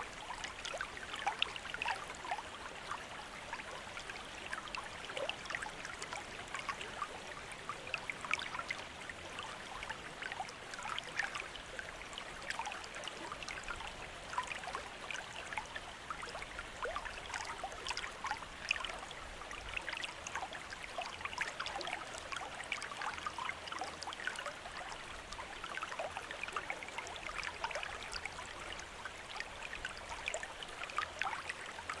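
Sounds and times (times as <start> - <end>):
fountain water trickling and splashing: 0.0 - 32.0.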